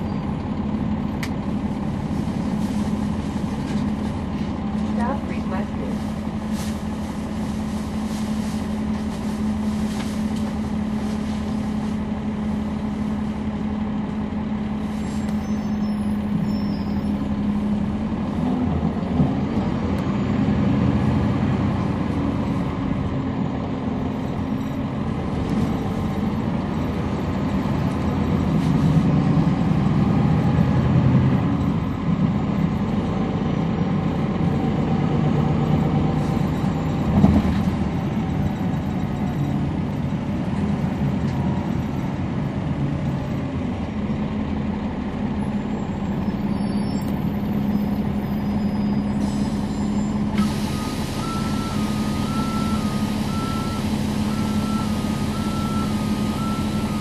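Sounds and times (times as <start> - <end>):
bus diesel engine humming: 0.0 - 57.0.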